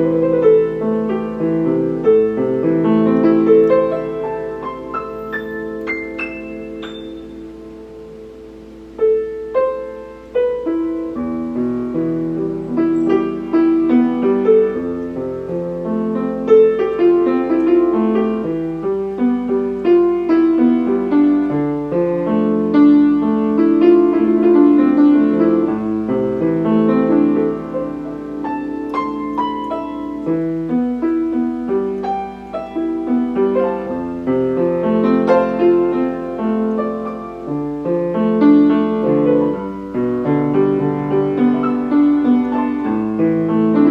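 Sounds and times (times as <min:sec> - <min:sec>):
piano playing: 0:00.0 - 0:43.9.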